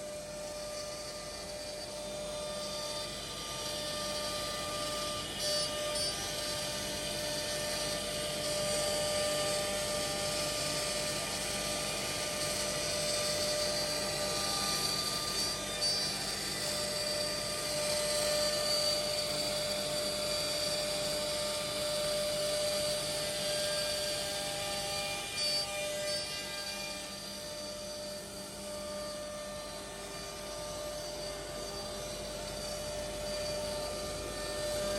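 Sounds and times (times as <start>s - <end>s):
cnc router spindles whining: 0.0s - 34.9s.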